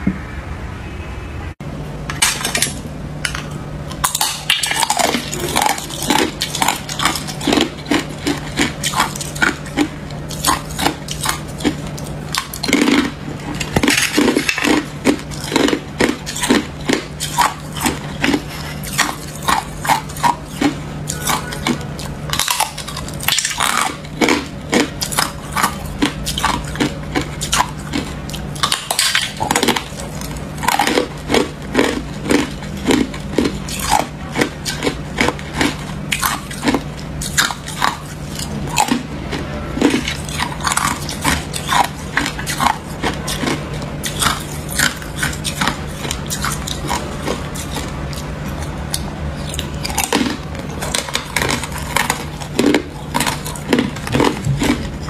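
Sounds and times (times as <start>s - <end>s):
steady low hum: 0.0s - 55.0s
ice crunching while chewed: 2.2s - 55.0s.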